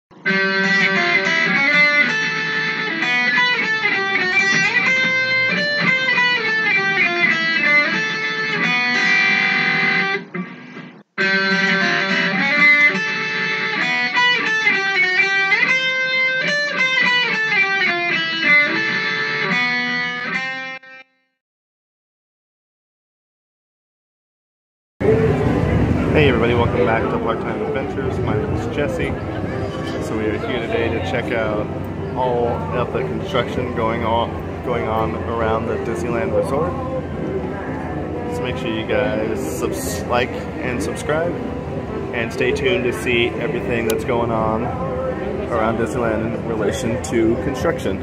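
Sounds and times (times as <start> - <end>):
fast guitar instrumental music: 0.1 - 21.1, 25.0 - 48.0.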